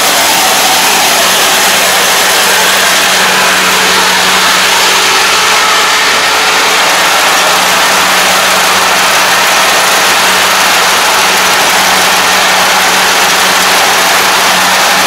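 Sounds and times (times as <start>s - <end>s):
combine harvester drone: 0.0s - 15.0s.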